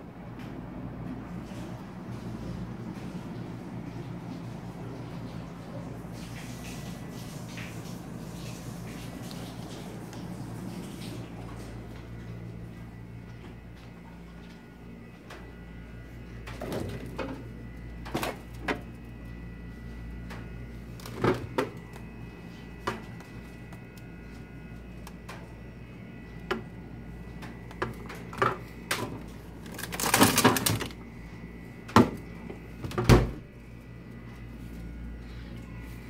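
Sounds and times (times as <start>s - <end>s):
room hum with high tone: 0.0s - 36.0s.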